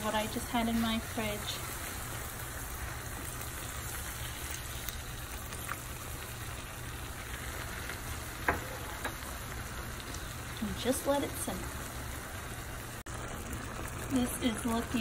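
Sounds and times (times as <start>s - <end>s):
food sizzling in a skillet: 0.0s - 15.0s.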